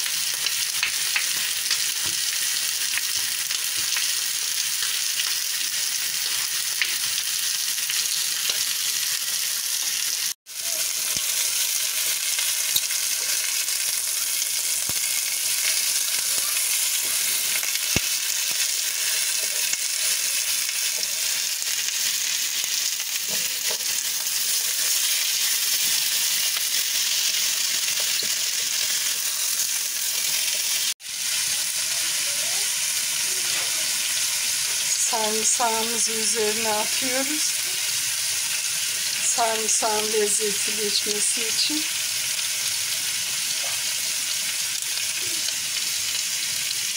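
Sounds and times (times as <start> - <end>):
meat sizzling in a pan: 0.0 - 46.9.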